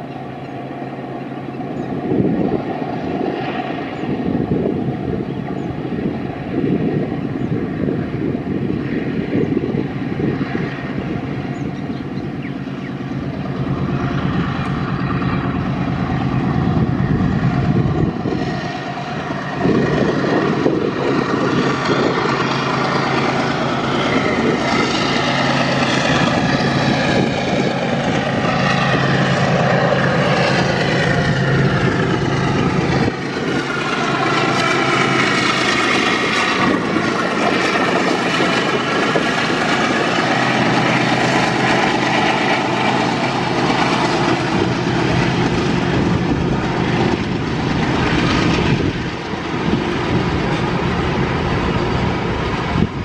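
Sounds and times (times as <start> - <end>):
diesel locomotive engines droning: 0.0 - 53.0
train wheels rumbling on rail: 0.0 - 53.0.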